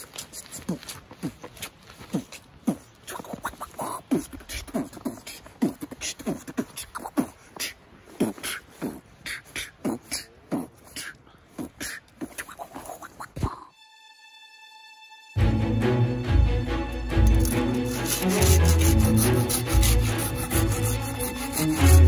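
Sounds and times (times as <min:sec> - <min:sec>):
person beatboxing: 0:00.0 - 0:13.7, 0:17.9 - 0:22.0.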